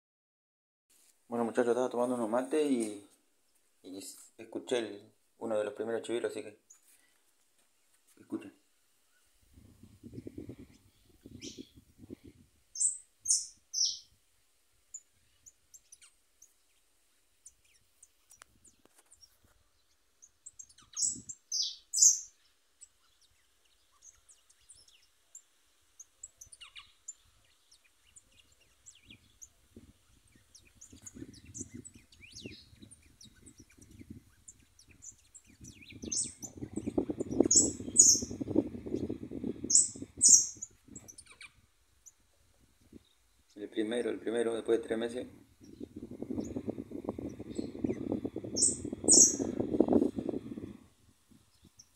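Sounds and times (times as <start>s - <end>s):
soft bird chirps: 6.6s - 14.2s, 14.9s - 44.4s, 45.0s - 51.9s
songbird singing: 7.8s - 14.2s, 14.8s - 51.9s.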